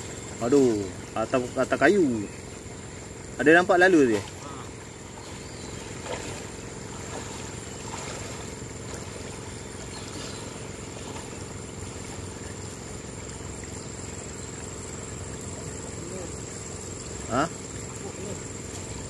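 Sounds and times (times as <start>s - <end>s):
river current rushing: 2.8s - 19.0s.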